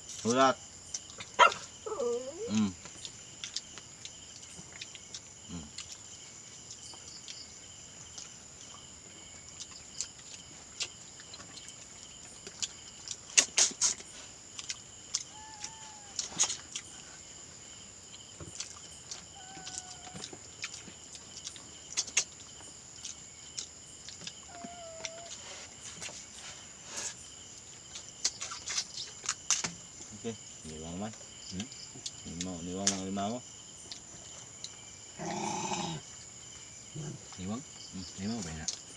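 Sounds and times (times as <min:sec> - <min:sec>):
night insects chirring: 0:00.0 - 0:38.9.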